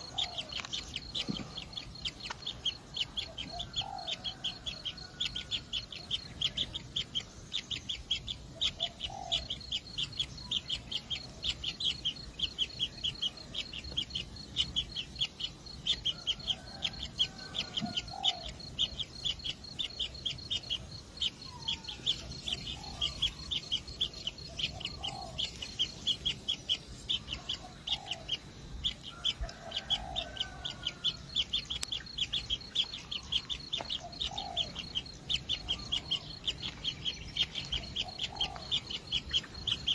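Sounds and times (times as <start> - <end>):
nestlings chirping high: 0.0 - 39.9.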